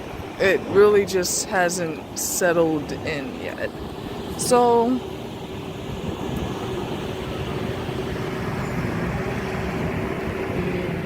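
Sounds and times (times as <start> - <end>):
low hum: 0.0 - 11.0
vehicle noise: 0.0 - 11.0.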